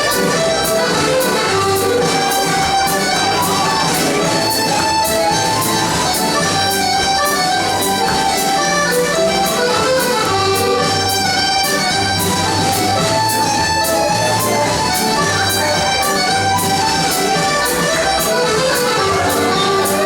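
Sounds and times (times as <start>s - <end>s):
accordion playing lively tune: 0.0s - 20.0s
steady drum beat: 0.0s - 20.0s.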